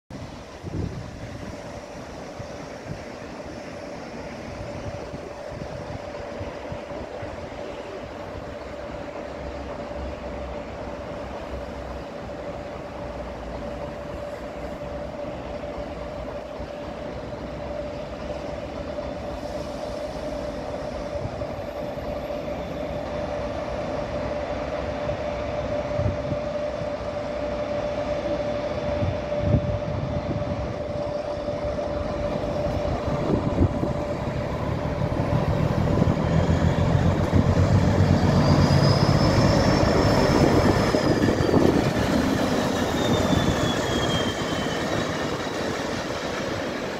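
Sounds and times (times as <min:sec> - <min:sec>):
diesel locomotive engine drone: 0:00.1 - 0:46.9
steady whine: 0:00.2 - 0:46.9.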